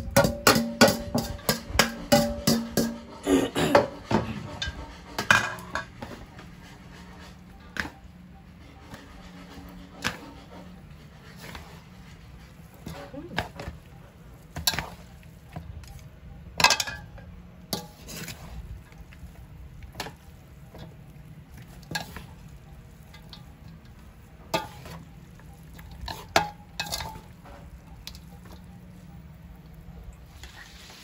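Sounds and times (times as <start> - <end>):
utensils clinking on metal basin: 0.0 - 30.2.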